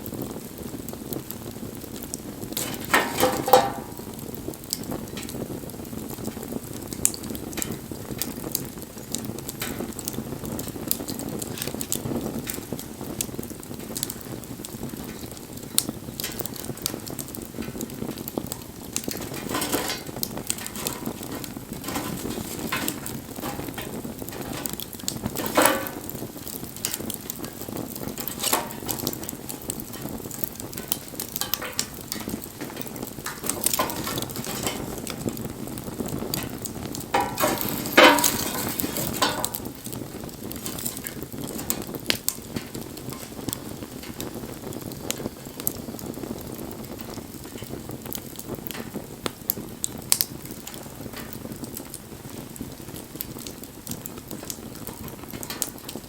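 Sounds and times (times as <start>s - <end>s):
campfire hissing: 0.0s - 56.0s
fire crackles and pops: 0.0s - 56.0s.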